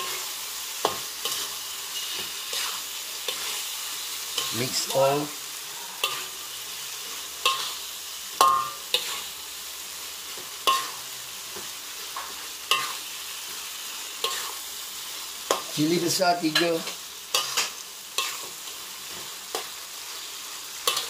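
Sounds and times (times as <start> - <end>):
metal spatula scraping a wok: 0.0 - 15.8, 16.5 - 21.0
beef sizzling in a wok: 0.0 - 21.0.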